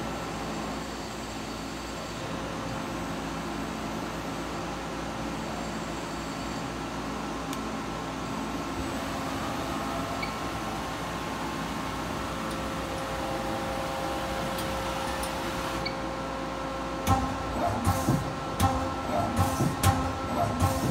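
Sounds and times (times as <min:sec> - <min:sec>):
faint steady whine: 0:00.0 - 0:20.9
machine hum: 0:00.0 - 0:20.9.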